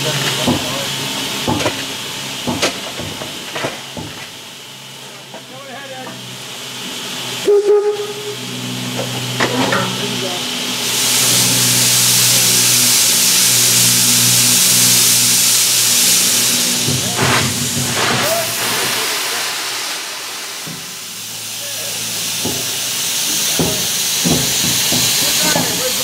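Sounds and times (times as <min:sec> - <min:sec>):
steam locomotive venting steam: 0:00.0 - 0:26.0.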